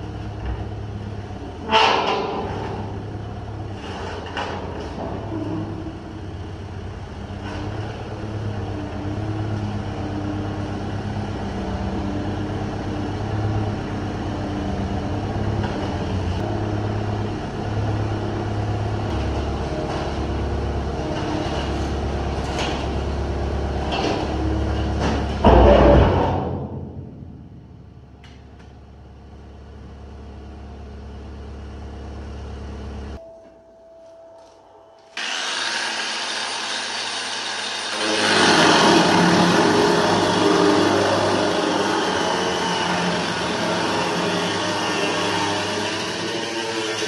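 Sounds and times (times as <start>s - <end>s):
forklift motor and hydraulics humming: 0.0s - 47.0s.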